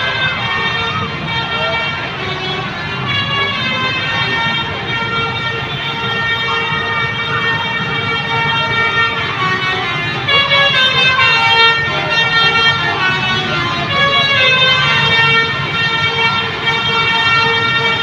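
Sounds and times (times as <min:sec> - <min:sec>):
bus multi-tone horn blast: 0:00.0 - 0:18.0
people's voices: 0:00.0 - 0:18.0.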